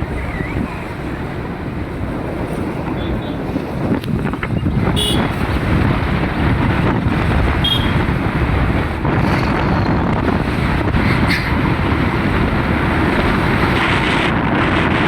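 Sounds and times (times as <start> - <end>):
road vehicles rumbling: 0.0 - 15.0
wind buffeting microphone: 0.0 - 15.0.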